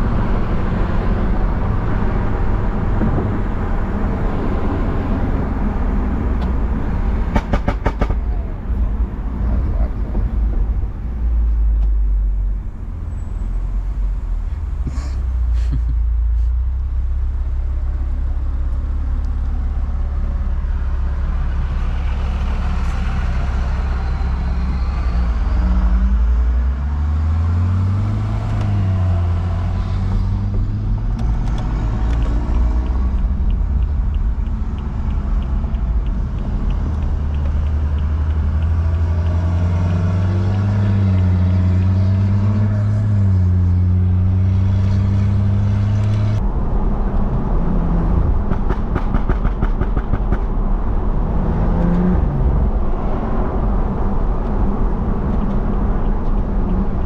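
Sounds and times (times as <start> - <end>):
car engine cruising: 0.0 - 57.0.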